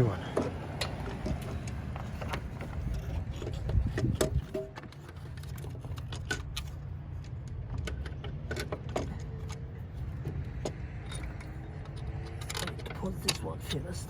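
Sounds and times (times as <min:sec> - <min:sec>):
metallic clicks and clinks: 0:00.8 - 0:14.0.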